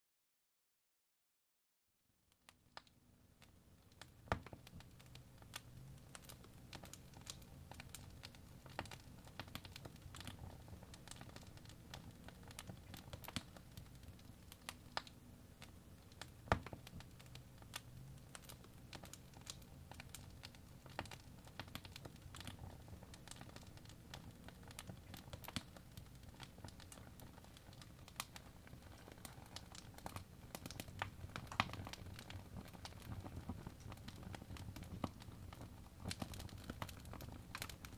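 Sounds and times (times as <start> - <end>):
fire crackling with sharp pops: 2.3 - 37.9
low steady fire rumble: 3.3 - 37.9.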